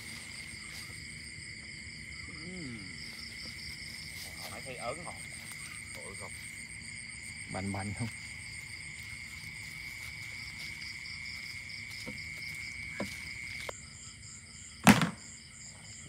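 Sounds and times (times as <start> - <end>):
steady high insect trill: 0.0 - 16.0.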